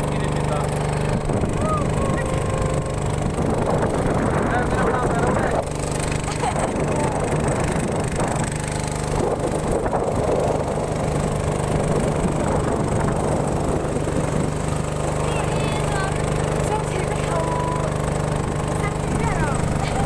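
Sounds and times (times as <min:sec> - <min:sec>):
boat motor humming: 0:00.0 - 0:20.0
water rushing along hull: 0:00.0 - 0:20.0.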